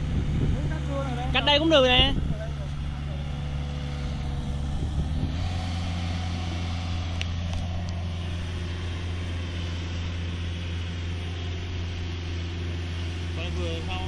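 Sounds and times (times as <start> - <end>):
golf cart driving on grass: 0.0 - 14.0
mower engine drone: 0.0 - 14.0.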